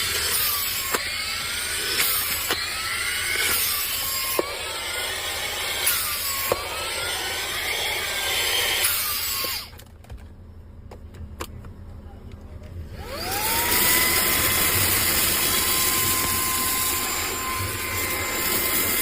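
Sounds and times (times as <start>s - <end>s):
handheld vacuum cleaner hissing: 0.0s - 9.7s, 13.0s - 19.0s.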